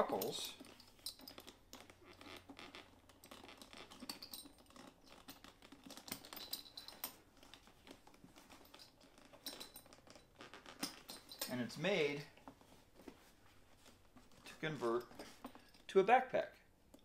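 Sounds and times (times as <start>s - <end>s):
leather straps through metal buckles: 0.0s - 16.0s.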